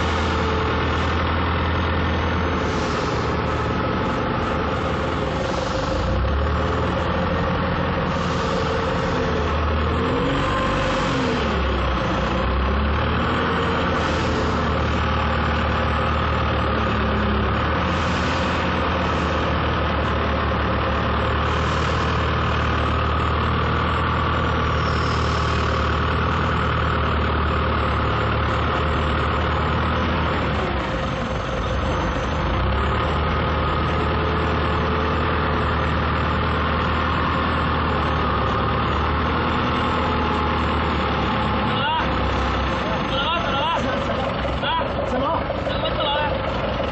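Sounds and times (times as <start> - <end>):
forklift engine running: 0.0 - 46.9.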